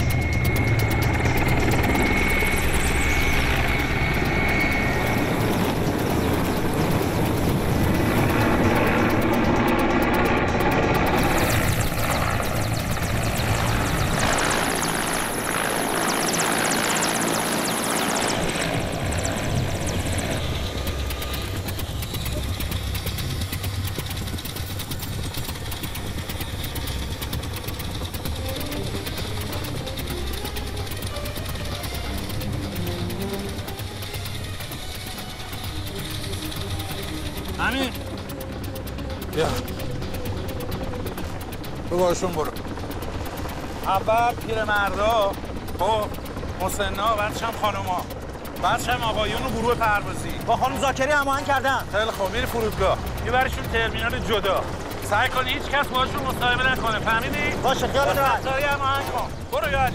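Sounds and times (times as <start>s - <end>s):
aircraft engine rumble: 0.0s - 59.9s
faint music: 0.0s - 59.9s
high engine whine: 0.0s - 59.9s.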